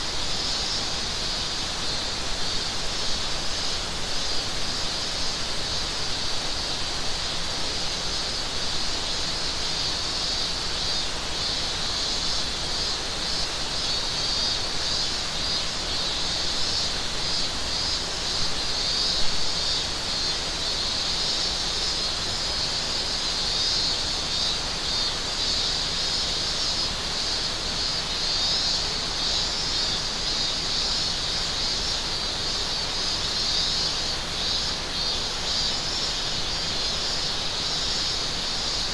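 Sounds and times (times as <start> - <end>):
cicadas chorus: 0.0 - 38.9.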